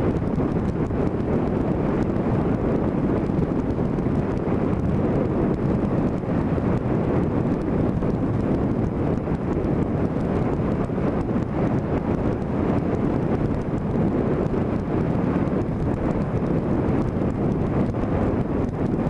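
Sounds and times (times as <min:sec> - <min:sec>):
road and engine noise: 0:00.0 - 0:19.0
wind rushing over microphone: 0:00.0 - 0:19.0.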